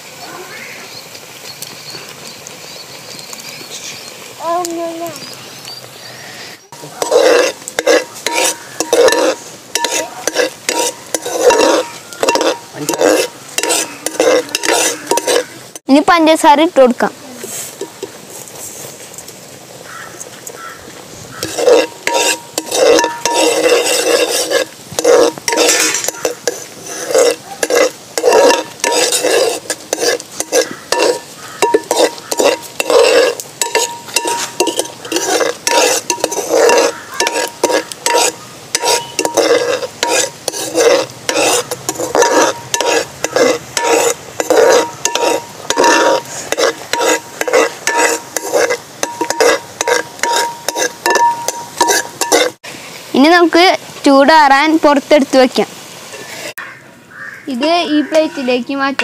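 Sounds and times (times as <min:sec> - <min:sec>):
sauce sizzling: 0:00.0 - 0:59.0
spoon scraping round a pan: 0:06.4 - 0:16.0, 0:17.4 - 0:19.2, 0:19.9 - 0:53.7, 0:55.3 - 0:59.0.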